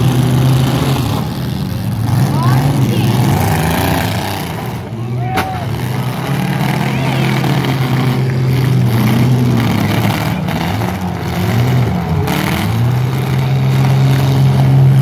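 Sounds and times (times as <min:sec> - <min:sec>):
car engines revving hard: 0:00.0 - 0:15.0.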